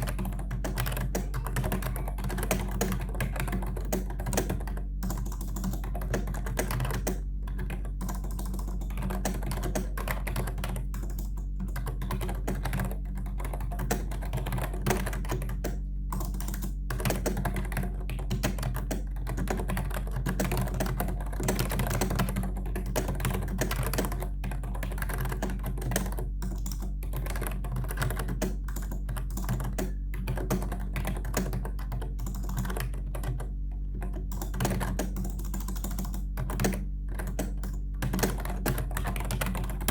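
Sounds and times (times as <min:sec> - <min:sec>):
fast keyboard typing: 0:00.0 - 0:39.9
steady low hum: 0:00.0 - 0:39.9.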